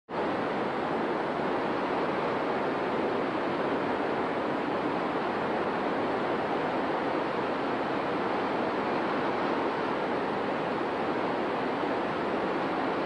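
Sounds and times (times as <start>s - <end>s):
whitewater rapids roaring: 0.1s - 13.0s.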